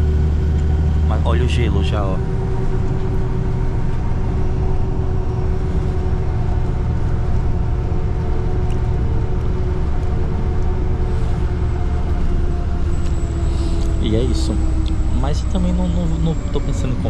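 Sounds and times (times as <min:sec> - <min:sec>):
bus engine rumble: 0:00.0 - 0:17.0
steady tonal hum: 0:00.0 - 0:17.0.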